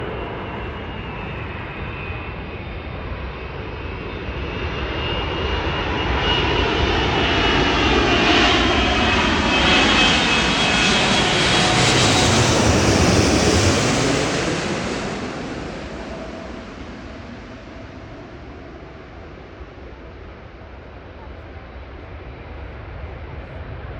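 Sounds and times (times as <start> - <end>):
jet airliner passing by: 0.0 - 23.9.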